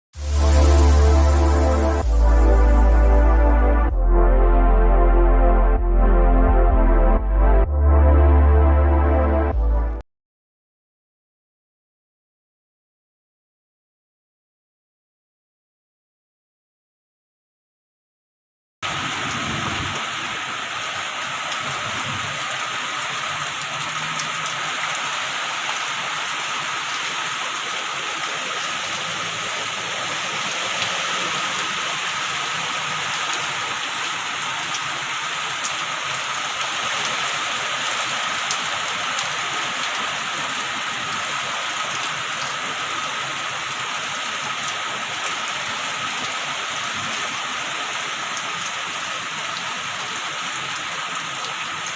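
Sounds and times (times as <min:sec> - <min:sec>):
heavy rain: 0:00.1 - 0:09.9, 0:18.8 - 0:51.9.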